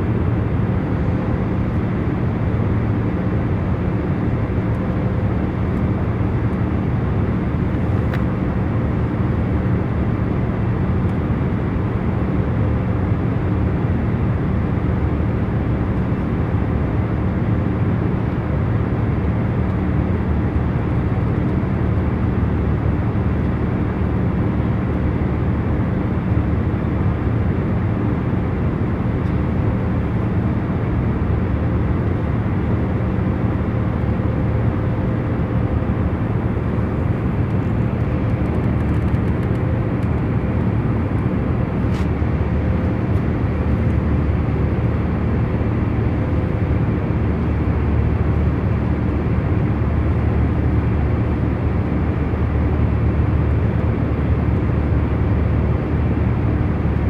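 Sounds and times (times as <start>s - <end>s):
airplane cabin rumble: 0.0s - 24.3s, 25.0s - 57.0s.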